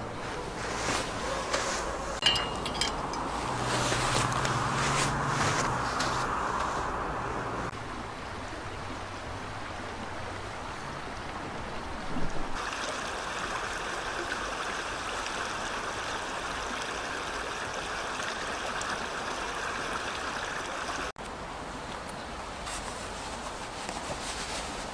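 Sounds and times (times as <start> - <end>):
water rushing: 0.0 - 22.6.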